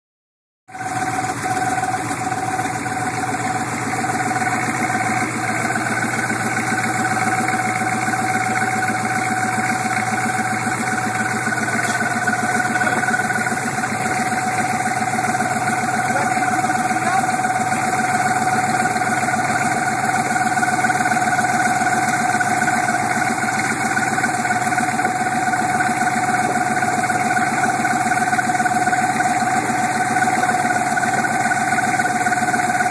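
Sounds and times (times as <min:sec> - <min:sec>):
diesel engine idling with clatter: 0:00.7 - 0:32.9
steady high tone: 0:00.9 - 0:32.3.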